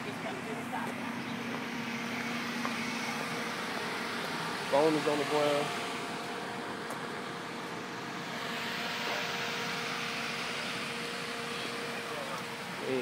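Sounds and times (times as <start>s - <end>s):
street background noise: 0.0s - 13.0s.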